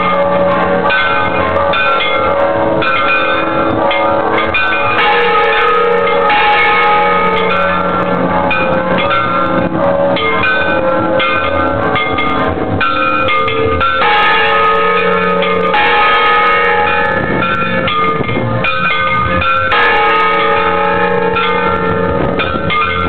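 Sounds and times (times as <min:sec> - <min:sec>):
church bells ringing: 0:00.0 - 0:23.0.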